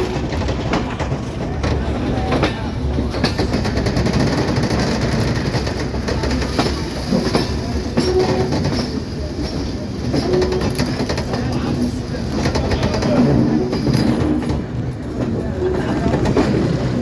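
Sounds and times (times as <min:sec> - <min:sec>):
train wheels clacking over rail joints: 0:00.0 - 0:17.0.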